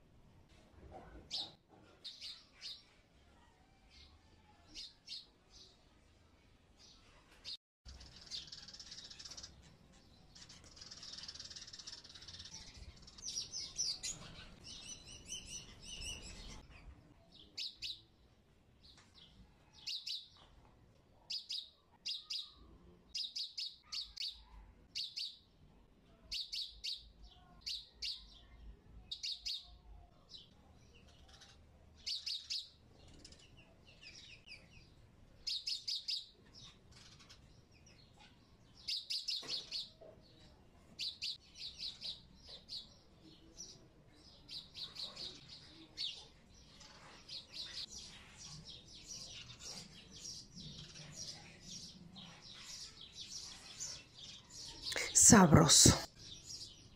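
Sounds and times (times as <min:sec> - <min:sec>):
small bird chirping: 0:06.8 - 0:18.1, 0:21.2 - 0:25.5, 0:26.3 - 0:56.9.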